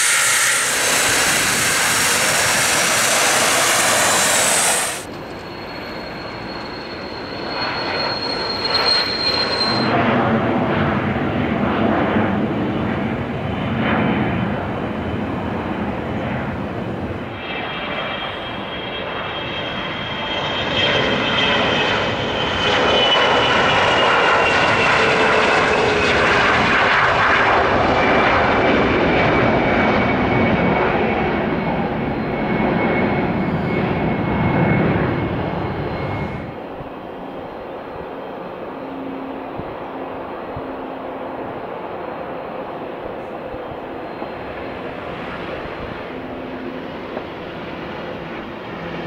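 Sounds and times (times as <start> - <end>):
distant jet on runway: 0.0 - 49.0
jet engine whine: 0.0 - 49.0
jet taking off: 0.0 - 49.0.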